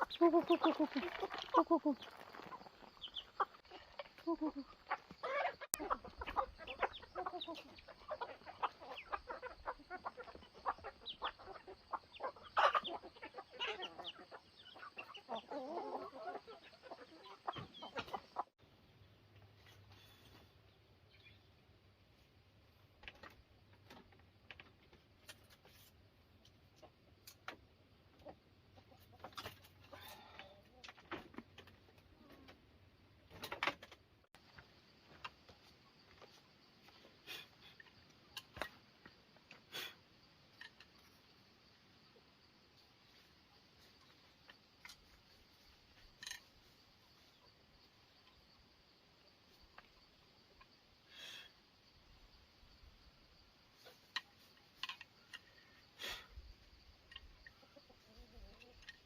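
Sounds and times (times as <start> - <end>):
chickens clucking: 0.0 - 21.5, 22.2 - 51.1, 53.6 - 59.0.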